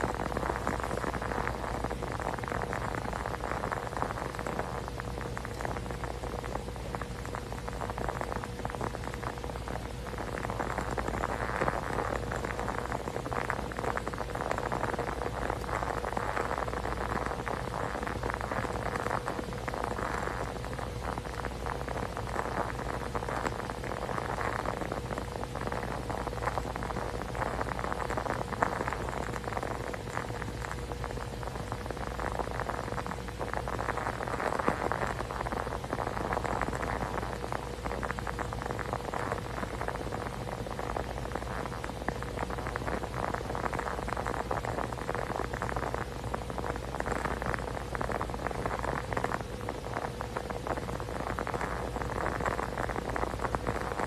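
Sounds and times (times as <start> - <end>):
constant low hum: 0.0 - 54.0
pattering and crackling noise: 0.0 - 54.0.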